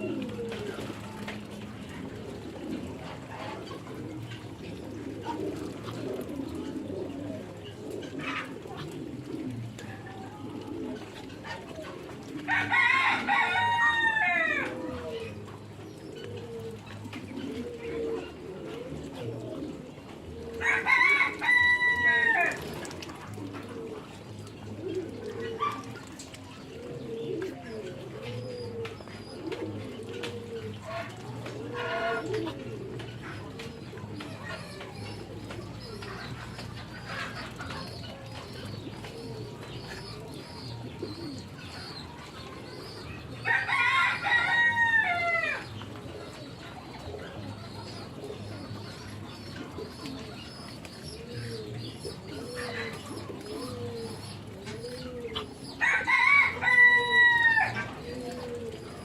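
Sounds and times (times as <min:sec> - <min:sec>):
low cooing: 0:00.0 - 0:59.0.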